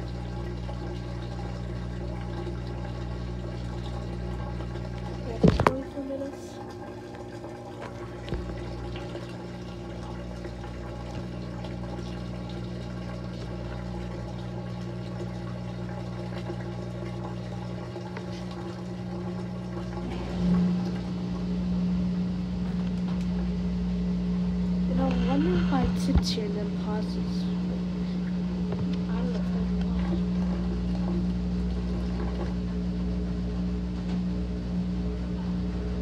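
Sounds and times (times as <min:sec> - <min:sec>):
loud steady hum: 0:00.0 - 0:36.0
washing machine hum: 0:00.0 - 0:36.0
water running into washing machine: 0:00.0 - 0:36.0.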